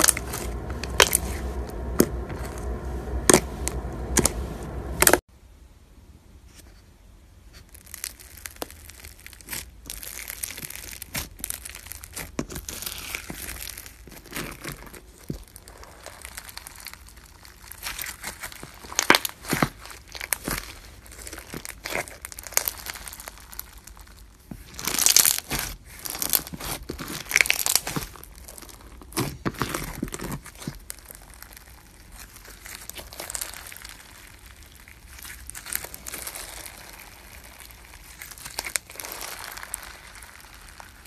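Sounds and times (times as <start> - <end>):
crunchy slime crackling and popping: 0.0 - 5.3, 7.5 - 41.0.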